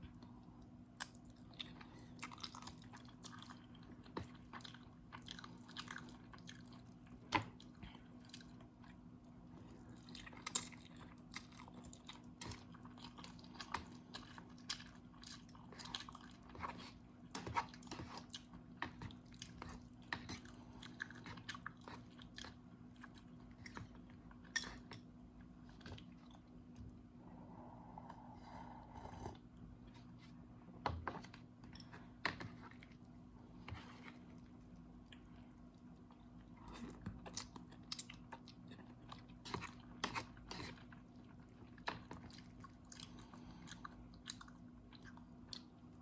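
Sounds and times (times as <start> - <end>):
person chewing noodles: 0.1 - 24.9, 31.3 - 46.0.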